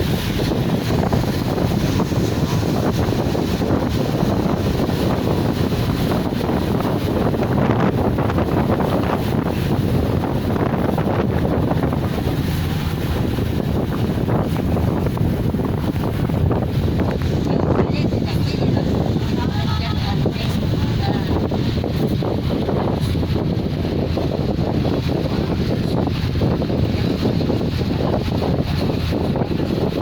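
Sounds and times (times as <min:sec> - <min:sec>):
boat running noise: 0:00.0 - 0:30.0
wind buffeting microphone: 0:00.0 - 0:30.0.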